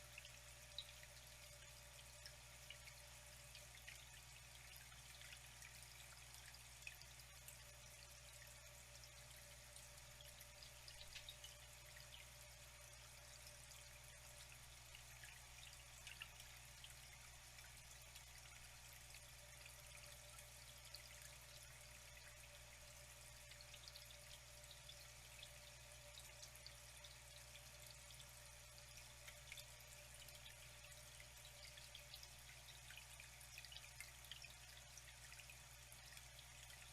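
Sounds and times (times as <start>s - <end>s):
water drips and splashes: 0.0s - 36.9s
water trickling: 0.0s - 36.9s.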